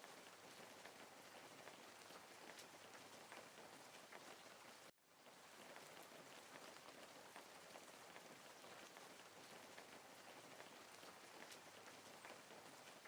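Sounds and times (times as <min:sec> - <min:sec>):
faint rain pattering: 0:00.0 - 0:13.0.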